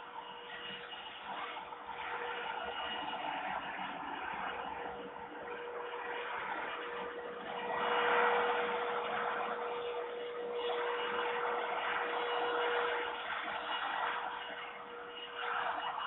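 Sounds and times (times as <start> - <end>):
constant hum: 0.0 - 16.0
steady rushing noise: 0.0 - 16.0.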